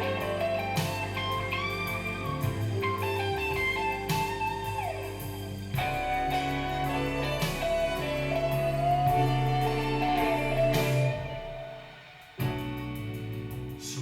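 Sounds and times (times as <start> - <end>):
bass and drums: 0.0 - 14.0
electric guitar lead: 0.0 - 14.0.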